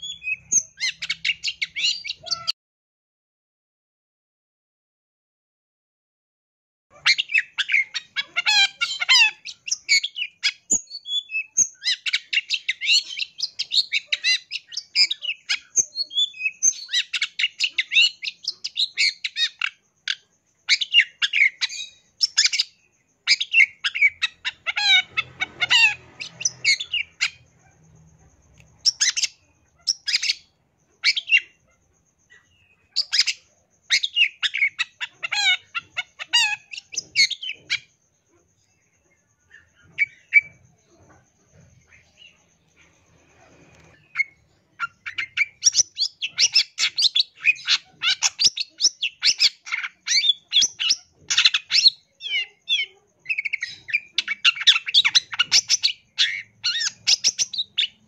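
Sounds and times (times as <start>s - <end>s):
shrike singing high chirps and trills: 0.0s - 2.6s, 6.9s - 58.0s.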